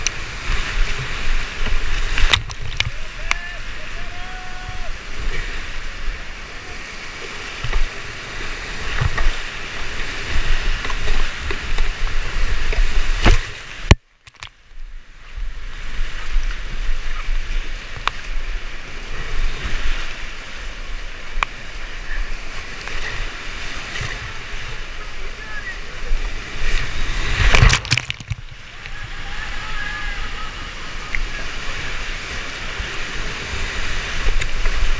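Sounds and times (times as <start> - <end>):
whitewater rapids splashing: 0.0 - 14.4, 15.3 - 34.9.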